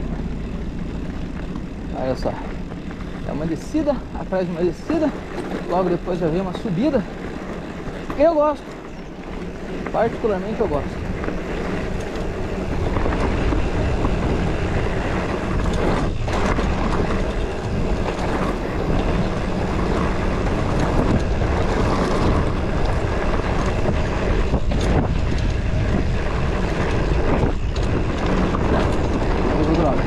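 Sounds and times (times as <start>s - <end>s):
bike tyre and trail noise: 0.0s - 30.0s
wind buffeting microphone: 0.0s - 30.0s.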